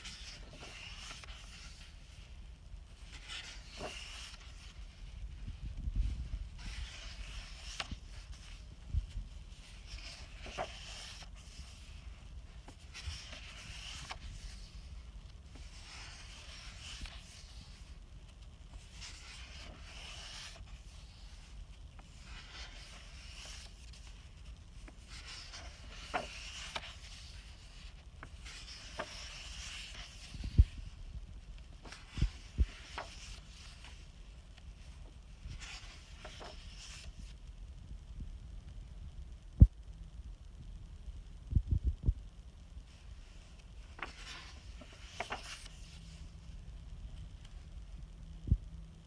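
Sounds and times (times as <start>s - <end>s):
paper pages rustling: 0.0s - 37.4s, 42.9s - 46.6s.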